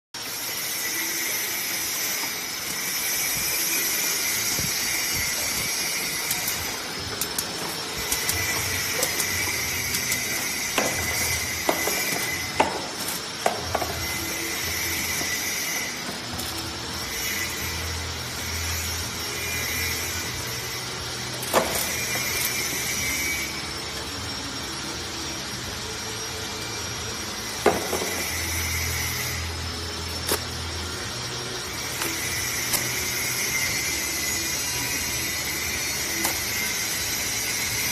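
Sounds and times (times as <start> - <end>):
packing machine whirring: 0.2 - 37.9.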